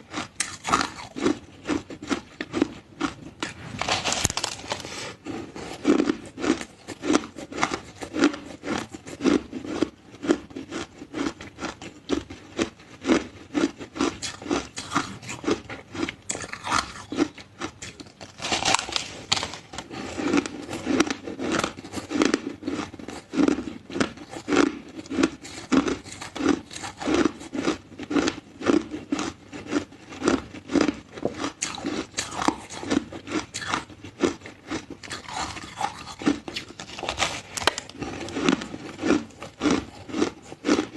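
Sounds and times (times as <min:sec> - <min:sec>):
person crunching ice: 0:00.0 - 0:40.9.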